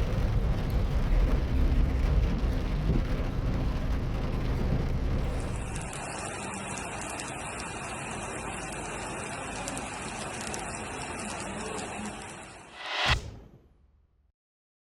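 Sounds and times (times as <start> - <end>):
heavy rain hissing: 0.0 - 13.1.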